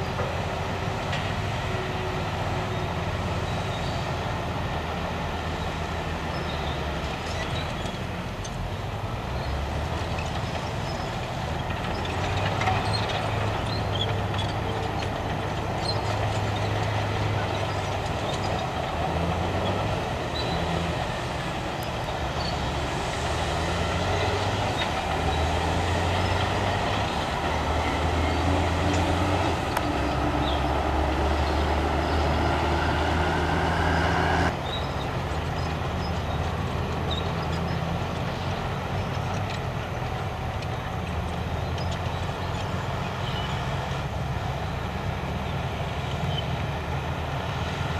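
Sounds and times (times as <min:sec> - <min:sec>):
heavy diesel engines running: 0:00.0 - 0:47.9.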